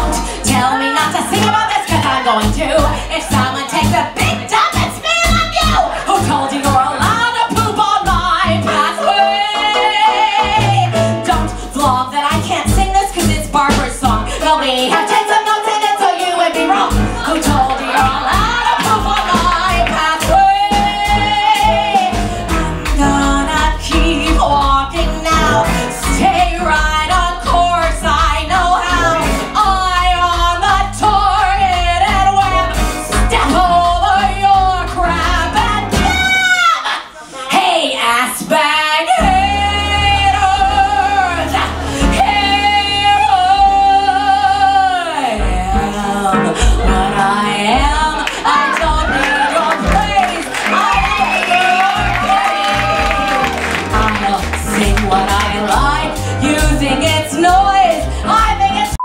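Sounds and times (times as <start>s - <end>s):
live band playing: 0.0s - 37.6s, 38.5s - 59.0s
woman singing: 0.0s - 59.0s.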